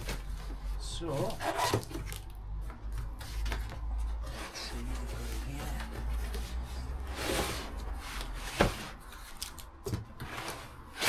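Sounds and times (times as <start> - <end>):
cardboard packaging rustling: 0.0 - 11.0.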